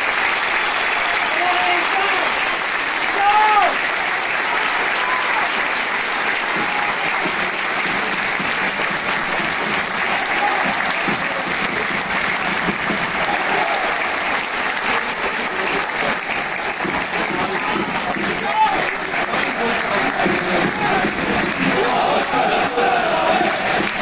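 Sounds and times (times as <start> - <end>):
crowd voices: 0.0 - 24.0
stadium crowd applauding: 0.0 - 24.0.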